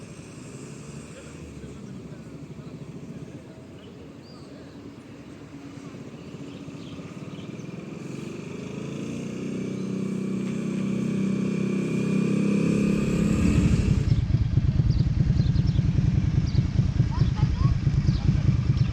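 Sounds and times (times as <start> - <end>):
motorcycle engine accelerating: 0.0 - 18.9.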